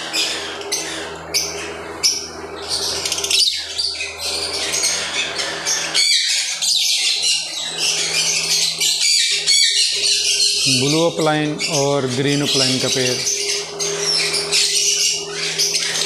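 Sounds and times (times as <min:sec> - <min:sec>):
lovebirds squawking and chirping: 0:00.0 - 0:16.0
steady low hum: 0:00.0 - 0:16.0.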